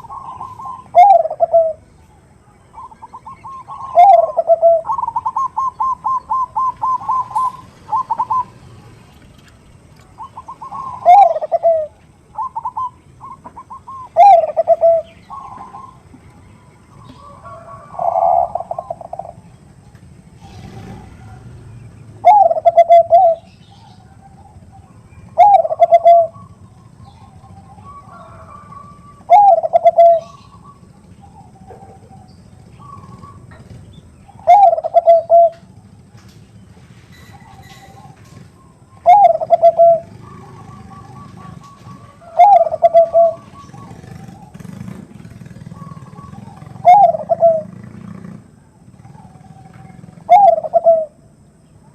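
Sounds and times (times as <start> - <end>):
doves cooing: 0.0 - 51.9.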